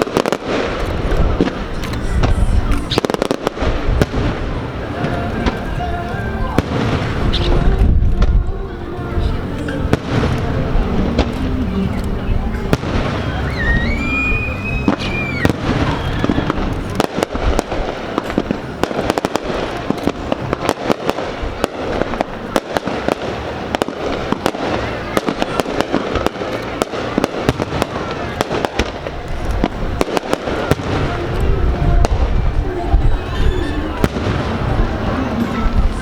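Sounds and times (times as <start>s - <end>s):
firework whistling: 0.0s - 8.4s, 9.7s - 36.0s
fireworks crackling: 0.0s - 36.0s.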